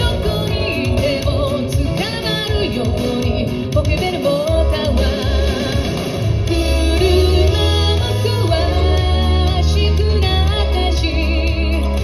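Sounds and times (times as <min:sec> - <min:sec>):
band backing with guitar: 0:00.0 - 0:12.0
woman singing with vibrato: 0:00.0 - 0:12.0.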